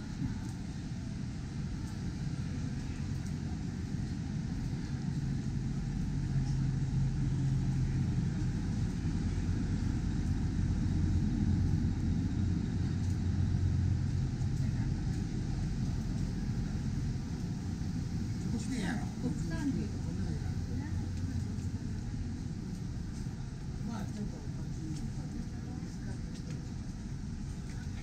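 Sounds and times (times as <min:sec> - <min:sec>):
low city rumble and hum: 0:00.0 - 0:28.0.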